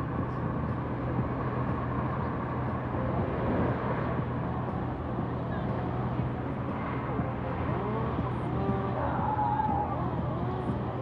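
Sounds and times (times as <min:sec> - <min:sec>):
low hum of city traffic: 0:00.0 - 0:11.0.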